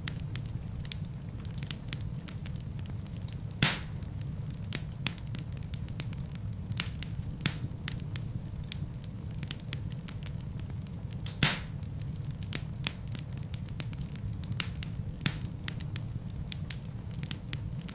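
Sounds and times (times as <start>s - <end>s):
fire crackling and popping: 0.0s - 17.9s
low rumble of flames: 0.0s - 17.9s.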